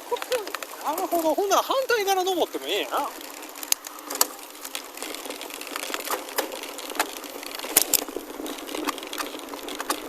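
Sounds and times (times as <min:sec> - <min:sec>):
bike clicks and knocks: 0:00.0 - 0:10.0
tyres crunching on gravel: 0:00.0 - 0:10.0.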